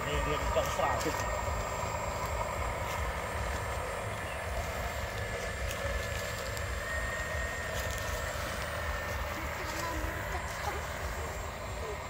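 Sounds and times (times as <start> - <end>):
low rumble: 0.0 - 12.0
small motors and gears whirring: 0.0 - 12.0.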